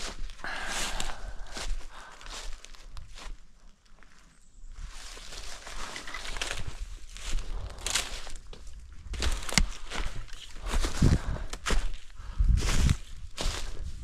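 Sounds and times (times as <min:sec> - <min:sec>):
footsteps in dry leaves: 0:00.0 - 0:14.0.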